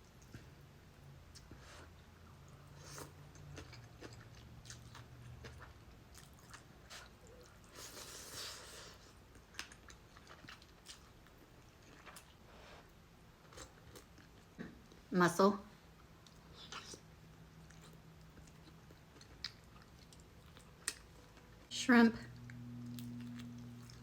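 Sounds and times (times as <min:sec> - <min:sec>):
chewing and mouth sounds: 0:01.3 - 0:12.4, 0:13.4 - 0:15.1, 0:16.0 - 0:21.7, 0:22.4 - 0:24.0.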